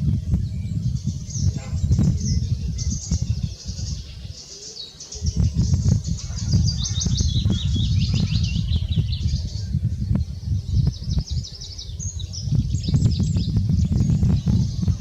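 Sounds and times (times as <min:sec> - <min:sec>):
steady low rumble: 0:00.0 - 0:04.3, 0:05.2 - 0:15.0
songbirds twittering: 0:00.0 - 0:15.0.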